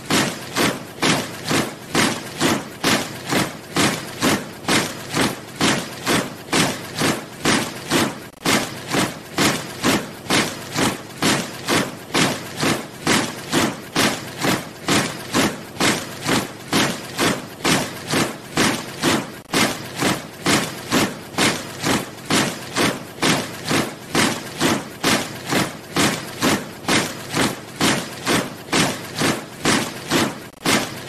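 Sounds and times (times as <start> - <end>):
boots marching in step: 0.0 - 31.0.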